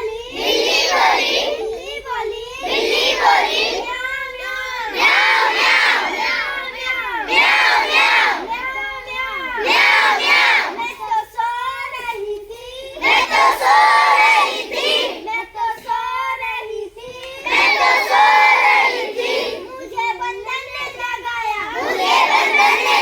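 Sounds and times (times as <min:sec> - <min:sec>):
children chanting in unison: 0:00.0 - 0:23.0.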